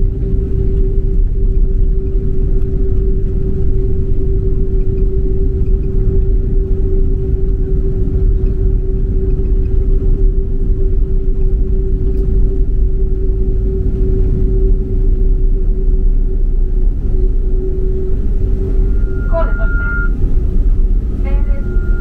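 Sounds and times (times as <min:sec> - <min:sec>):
airplane cabin engine rumble: 0:00.0 - 0:22.0
constant hum: 0:00.0 - 0:22.0.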